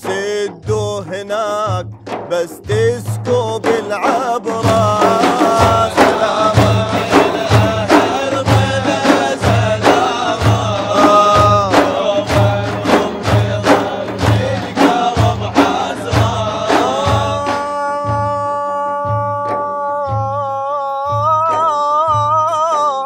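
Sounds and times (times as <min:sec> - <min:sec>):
frame drums beating: 0:00.0 - 0:23.0
men chanting: 0:00.0 - 0:23.0.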